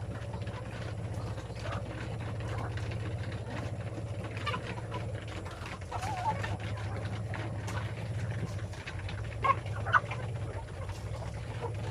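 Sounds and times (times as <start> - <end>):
chickens clucking: 0.0 - 11.9
pulsing engine-like hum: 0.0 - 11.9.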